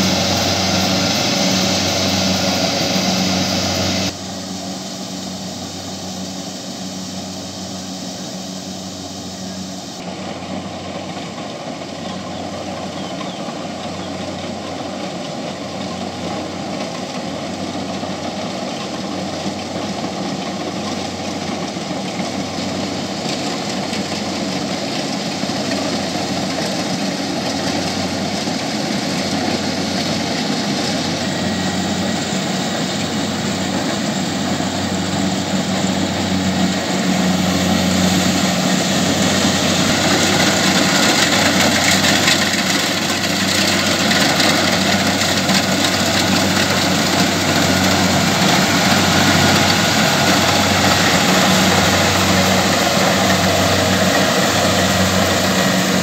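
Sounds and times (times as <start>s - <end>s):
combine harvester engine and machinery: 0.0s - 56.0s.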